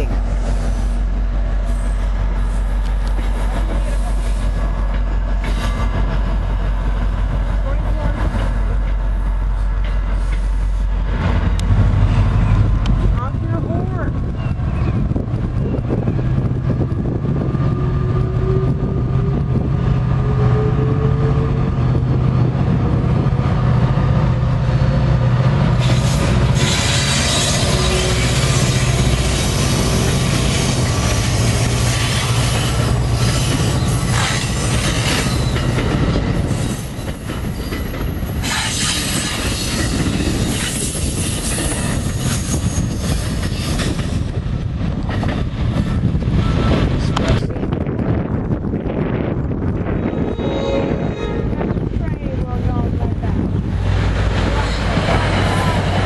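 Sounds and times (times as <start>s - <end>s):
diesel locomotive rumbling: 0.0s - 56.0s.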